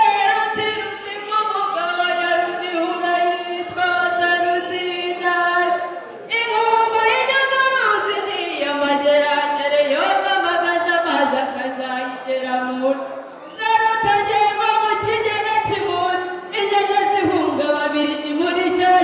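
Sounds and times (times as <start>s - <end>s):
girl singing through microphone: 0.0s - 19.0s.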